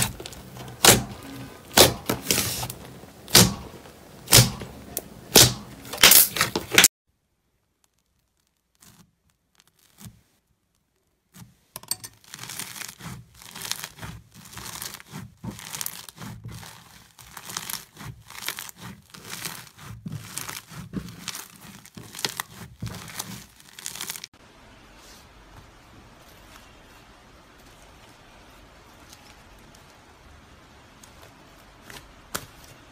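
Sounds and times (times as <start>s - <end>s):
foam slime crunchy crackling: 0.0s - 32.9s.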